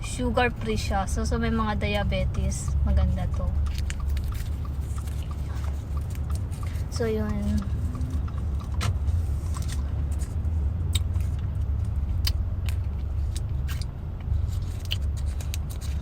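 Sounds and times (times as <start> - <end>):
car cabin rumble: 0.0 - 15.3.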